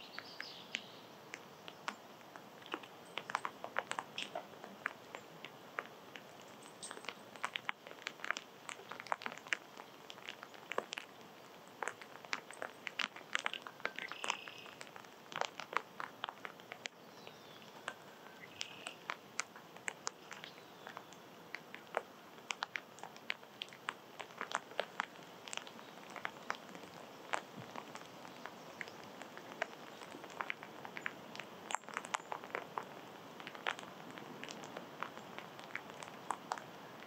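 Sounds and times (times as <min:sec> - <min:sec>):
animals cracking and pecking seeds: 0:00.0 - 0:37.0.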